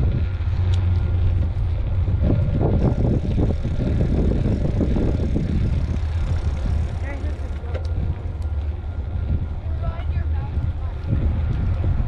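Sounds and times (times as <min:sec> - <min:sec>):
bicycle rattling on trail: 0:00.0 - 0:12.0
wind rushing over microphone: 0:00.0 - 0:12.0.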